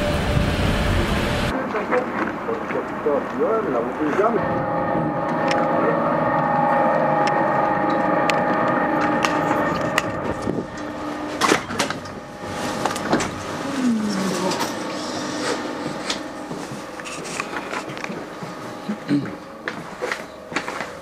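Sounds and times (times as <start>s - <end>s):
train electric hum: 0.0s - 21.0s.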